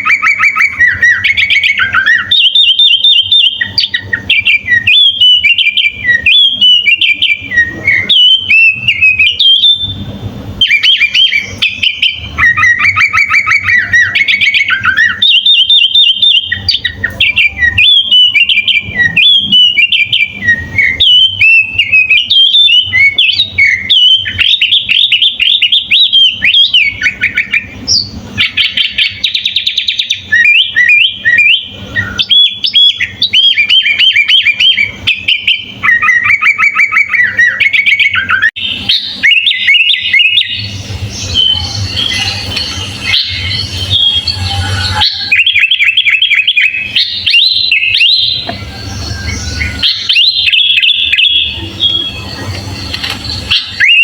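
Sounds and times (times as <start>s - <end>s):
bulbul chirping and whistling: 0.0s - 54.0s.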